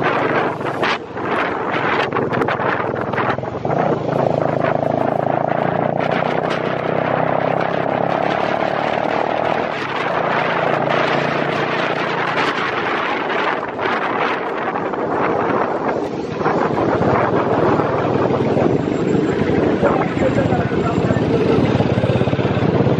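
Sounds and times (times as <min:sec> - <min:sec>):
motorcycle engine running: 0:00.0 - 0:22.9
steady whine: 0:00.0 - 0:22.9
wind on microphone: 0:00.0 - 0:22.9.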